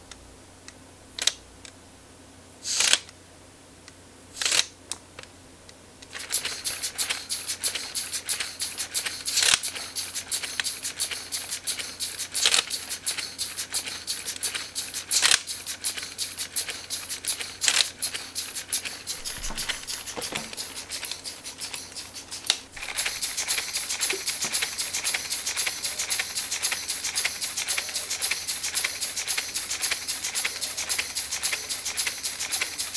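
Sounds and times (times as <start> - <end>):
pneumatic engine clicking: 6.0 - 32.9.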